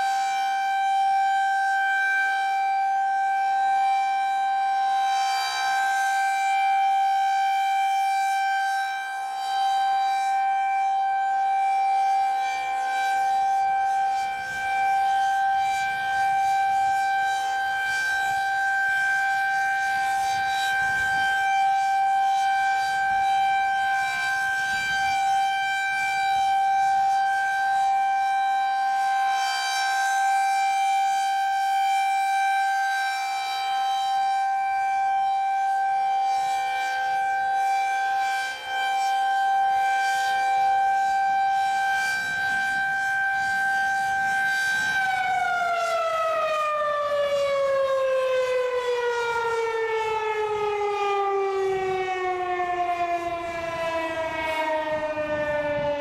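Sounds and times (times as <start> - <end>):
steady outdoor warning siren: 0.0 - 56.0.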